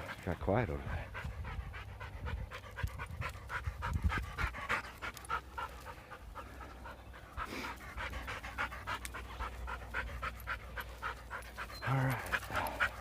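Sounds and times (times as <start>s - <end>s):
dog panting heavily: 0.0s - 13.0s.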